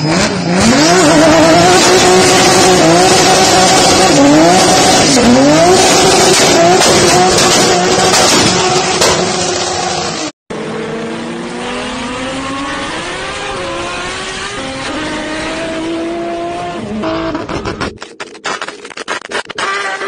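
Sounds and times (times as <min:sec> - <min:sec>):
car engine accelerating: 0:00.0 - 0:17.8
tire burnout: 0:00.0 - 0:20.0.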